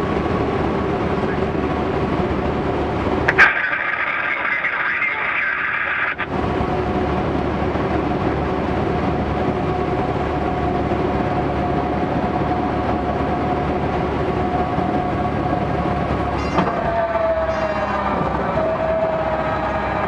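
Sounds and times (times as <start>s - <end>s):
steady whine: 0.0s - 20.0s.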